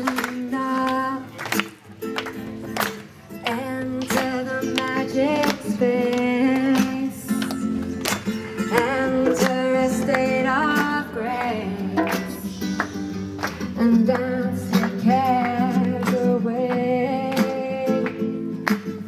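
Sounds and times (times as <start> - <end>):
woman singing: 0.0 - 1.6, 3.4 - 7.8, 8.6 - 19.0
strummed acoustic guitars: 0.0 - 19.0.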